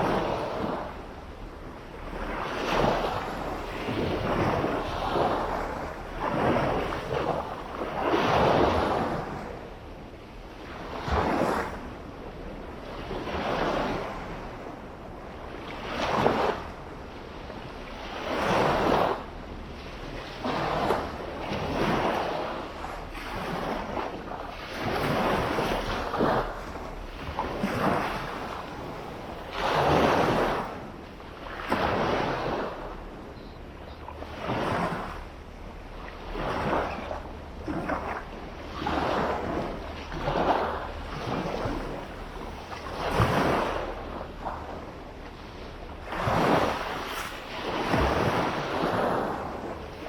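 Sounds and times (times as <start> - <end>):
small waves breaking on a beach: 0.0 - 50.0.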